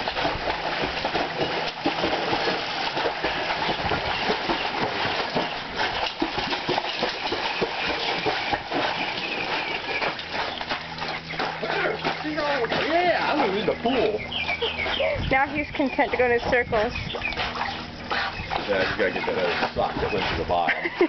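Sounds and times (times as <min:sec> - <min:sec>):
dog paws splashing water: 0:00.0 - 0:21.0.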